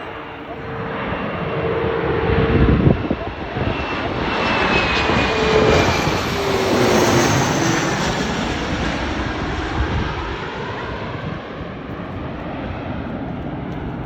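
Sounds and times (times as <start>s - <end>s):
jet plane passing overhead: 0.0s - 14.0s.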